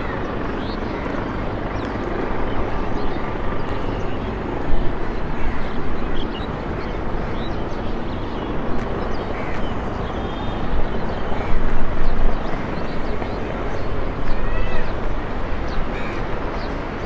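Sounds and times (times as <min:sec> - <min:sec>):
helicopters flying past: 0:00.0 - 0:17.0.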